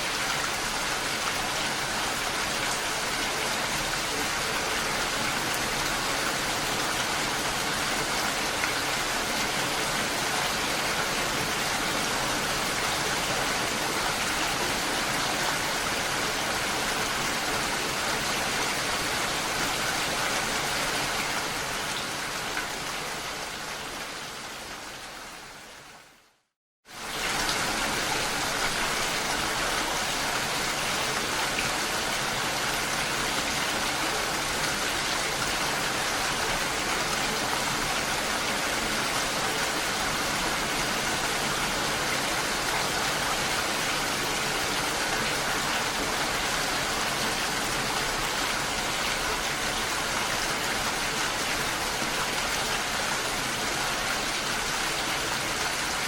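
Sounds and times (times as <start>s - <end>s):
dense rain hiss: 0.0s - 56.0s.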